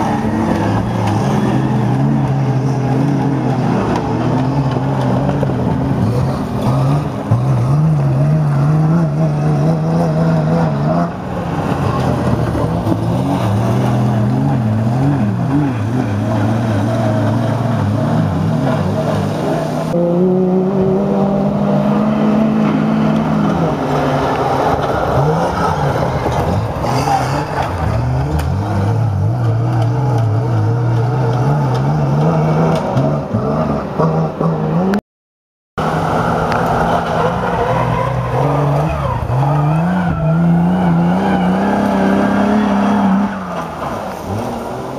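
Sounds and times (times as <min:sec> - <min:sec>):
truck engines revving: 0:00.0 - 0:35.0, 0:35.8 - 0:44.9.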